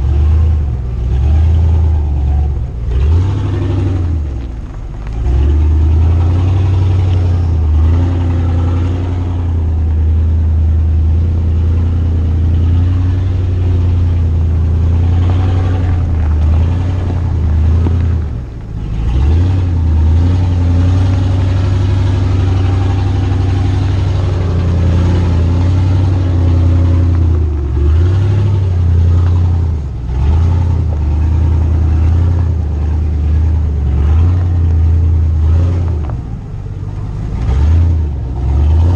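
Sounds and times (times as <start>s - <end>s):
pickup truck engine revving: 0.0s - 38.9s.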